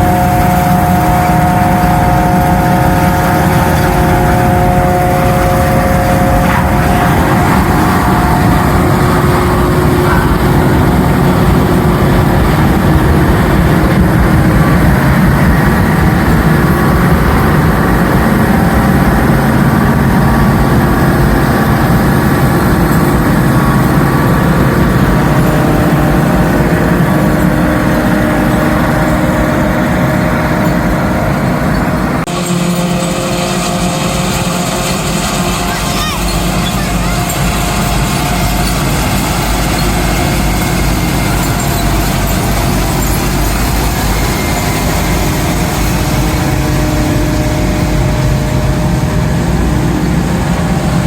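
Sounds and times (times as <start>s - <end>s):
silage cutter mechanical drone: 0.0s - 51.0s.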